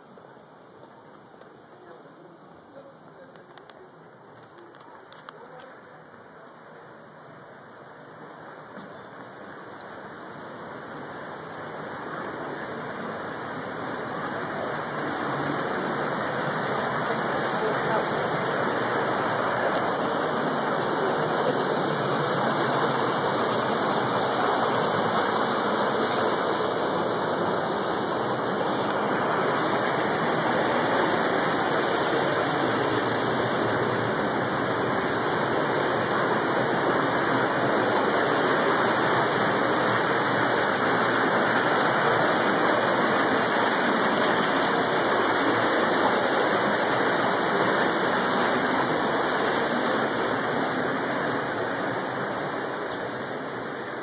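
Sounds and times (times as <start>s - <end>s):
creek water rushing: 3.8s - 54.0s.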